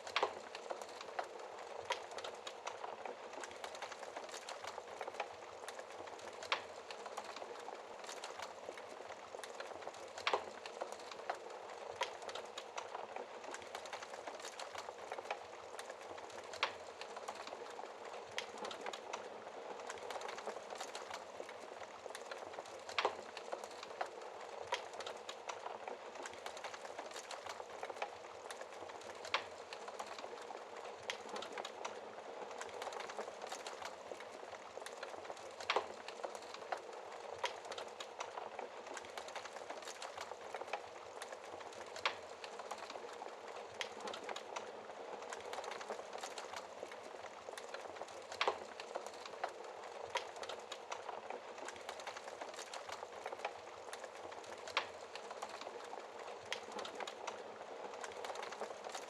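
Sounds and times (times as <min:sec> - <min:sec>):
fire popping: 0:00.0 - 0:59.0
hiss of burning logs: 0:00.0 - 0:59.0
wood fire crackling: 0:00.0 - 0:59.0.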